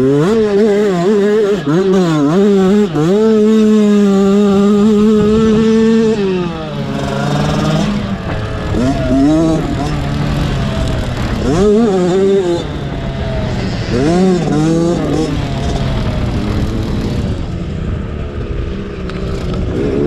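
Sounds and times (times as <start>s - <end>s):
dirt bikes revving: 0.0s - 20.0s.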